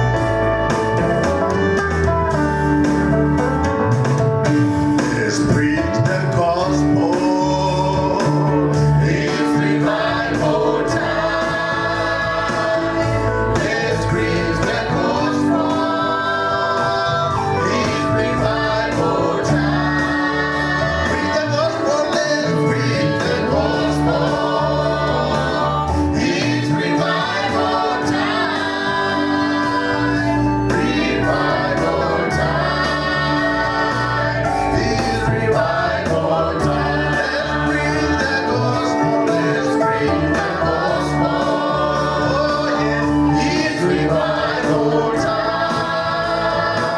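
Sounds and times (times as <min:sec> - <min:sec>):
choir singing gospel song: 0:00.0 - 0:03.7, 0:04.5 - 0:46.9
instrumental backing with steady beat: 0:00.0 - 0:46.9.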